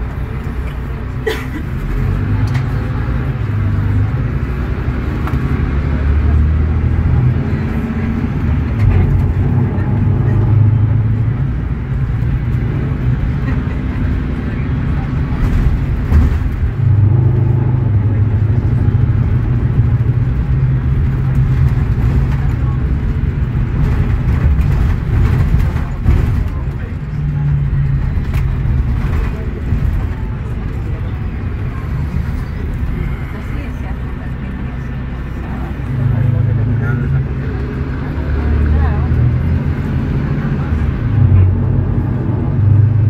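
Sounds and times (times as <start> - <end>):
bus diesel engine pulling: 0.0 - 43.0.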